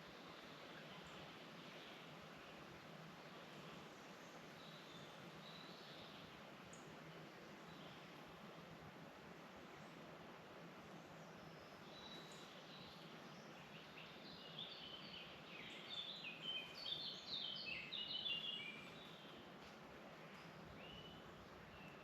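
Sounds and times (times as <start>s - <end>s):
faint steady hiss: 0.0s - 22.0s
songbird singing: 0.1s - 8.1s, 10.8s - 22.0s.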